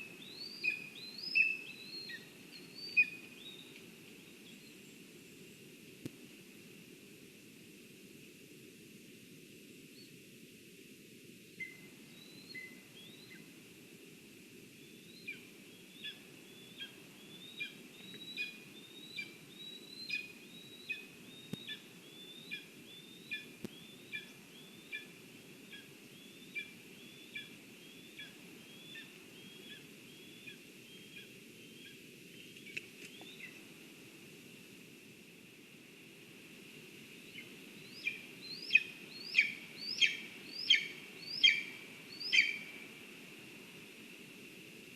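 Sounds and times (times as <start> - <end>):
steady outdoor hiss: 0.0 - 44.9.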